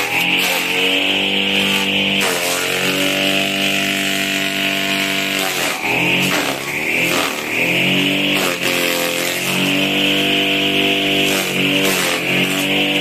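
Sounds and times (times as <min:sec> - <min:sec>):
electric motor whining: 0:00.0 - 0:13.0
grass chopper cutting grass: 0:00.0 - 0:13.0.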